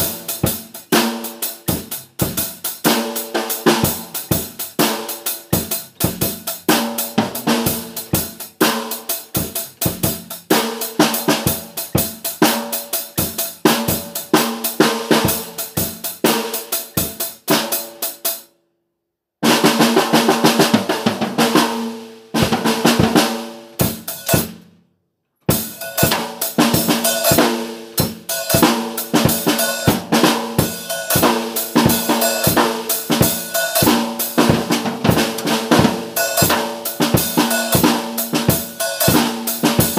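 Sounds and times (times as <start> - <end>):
drum-heavy background music: 0.0 - 17.8, 19.4 - 24.6, 25.5 - 39.9.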